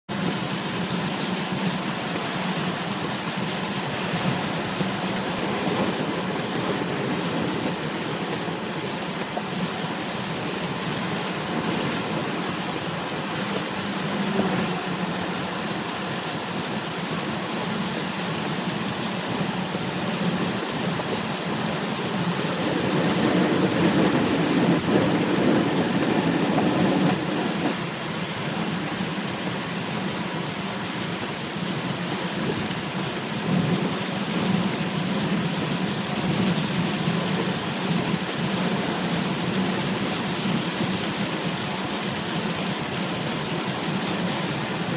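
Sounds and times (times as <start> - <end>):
car engine noise: 0.1 - 44.9
heavy rain on car: 0.1 - 44.9
tyre spray on wet road: 0.1 - 44.9.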